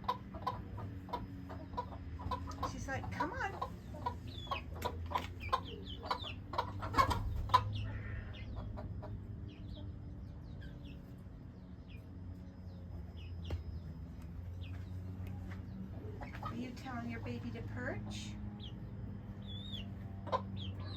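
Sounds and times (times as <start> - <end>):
hen clucking: 0.0 - 11.3, 14.6 - 20.9
chick peeping: 0.0 - 20.9.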